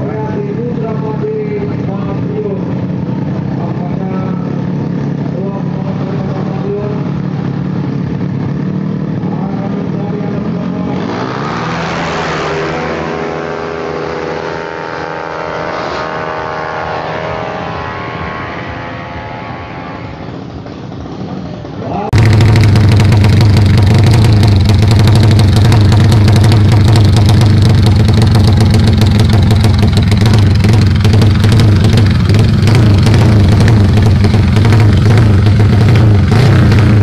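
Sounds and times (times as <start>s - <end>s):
loud steady low drone: 0.0s - 37.0s
motorcycle accelerating hard: 0.0s - 37.0s.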